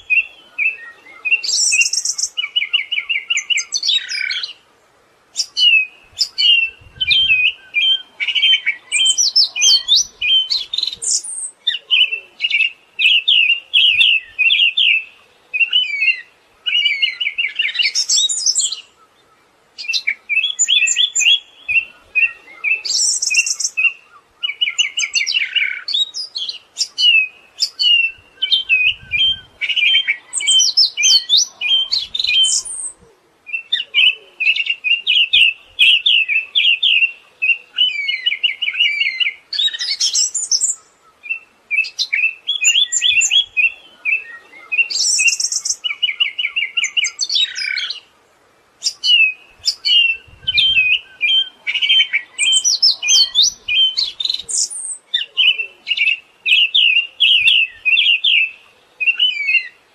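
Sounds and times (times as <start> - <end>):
bird singing chattering song: 0.0 - 4.6, 5.3 - 48.1, 48.8 - 59.9.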